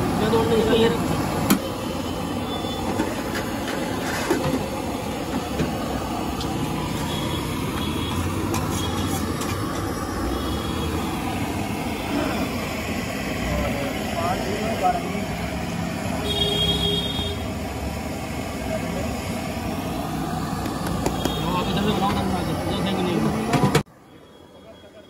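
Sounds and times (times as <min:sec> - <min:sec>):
low rumble of passing traffic: 0:00.0 - 0:24.2.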